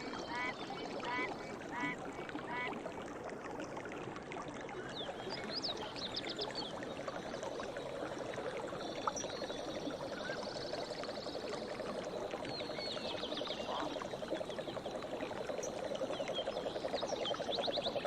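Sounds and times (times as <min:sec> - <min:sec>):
stream running water: 0:00.0 - 0:18.0.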